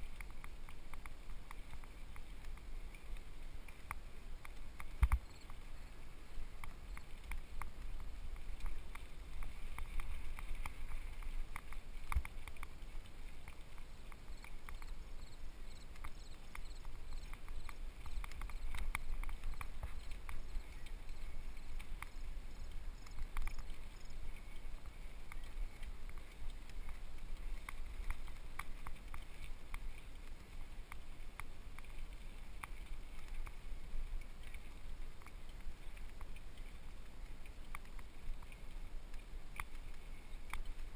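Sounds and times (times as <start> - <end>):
rumble of wind and tyres: 0.0 - 40.9.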